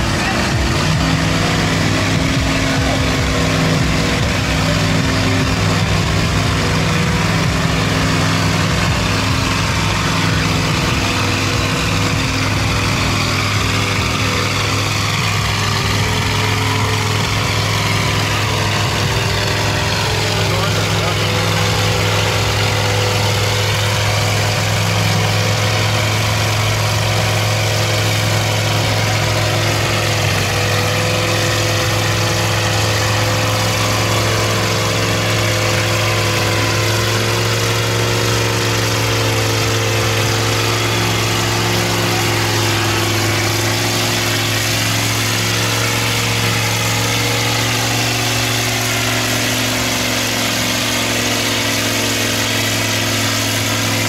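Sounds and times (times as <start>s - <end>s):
tires churning mud: 0.0s - 54.0s
truck engine running hard: 0.0s - 54.0s.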